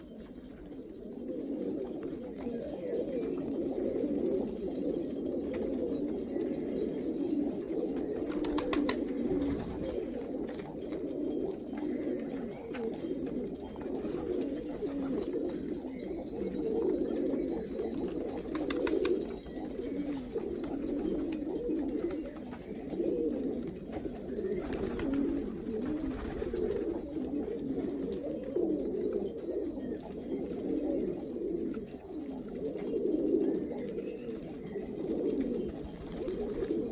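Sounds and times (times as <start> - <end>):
pigeons cooing: 0.0 - 36.9.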